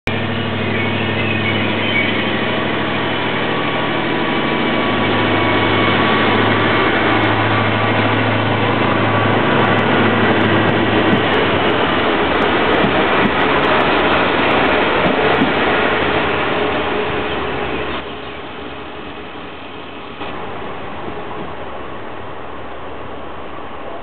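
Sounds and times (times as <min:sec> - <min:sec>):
diesel train engines humming: 0:00.1 - 0:24.0
train cars rumbling on rails: 0:00.1 - 0:24.0.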